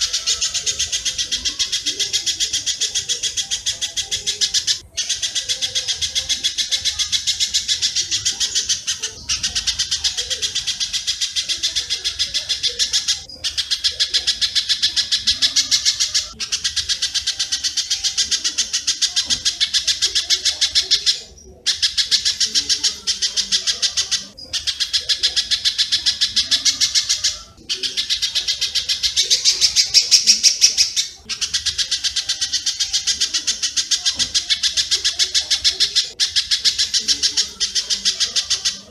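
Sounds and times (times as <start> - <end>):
rapid high bird chirps: 0.0 - 38.9.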